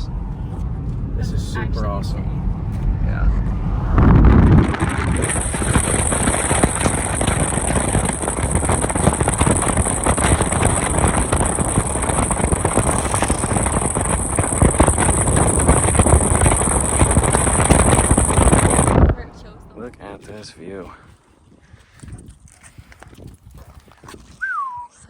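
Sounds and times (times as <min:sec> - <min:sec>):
car road and wind noise: 0:00.0 - 0:20.9.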